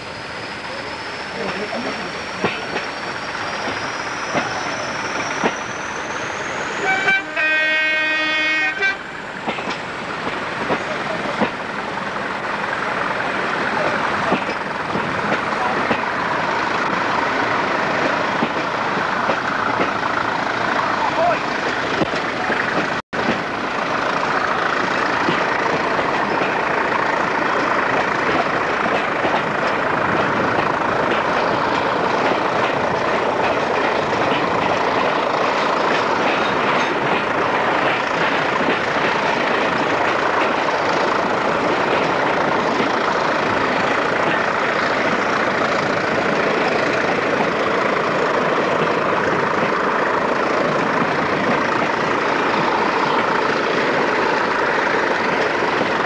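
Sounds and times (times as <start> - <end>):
diesel locomotives working: 0.0 - 56.0
train running noise: 0.0 - 56.0.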